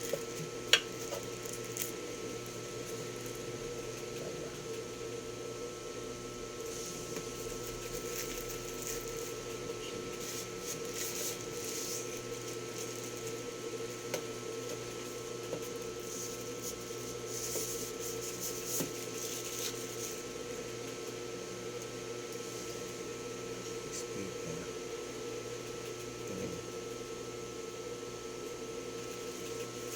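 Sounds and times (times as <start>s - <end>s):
steady background hum: 0.0s - 29.9s.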